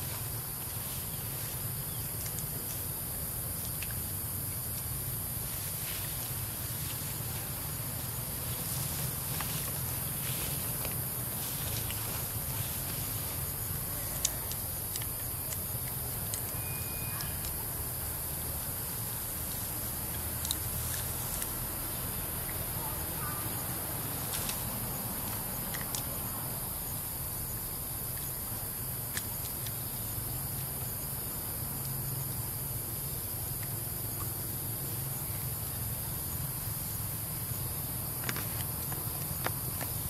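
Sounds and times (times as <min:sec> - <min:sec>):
insects chorus: 0:00.0 - 0:40.0.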